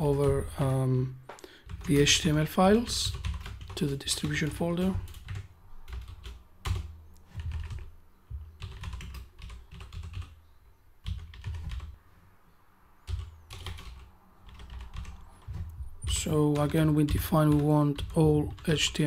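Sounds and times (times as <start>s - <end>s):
typing on keyboard: 0.0s - 0.6s, 1.6s - 10.4s, 11.0s - 12.0s, 13.1s - 19.0s.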